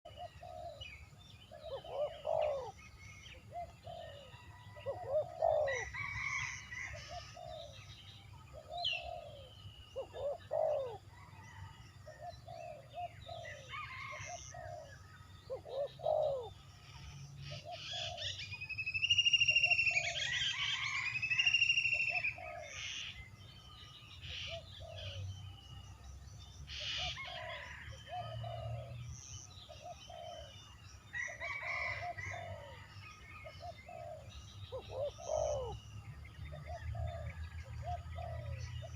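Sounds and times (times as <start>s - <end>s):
bird cooing: 0.1s - 18.6s, 19.2s - 23.3s, 24.2s - 25.4s, 26.8s - 35.9s, 36.5s - 38.9s.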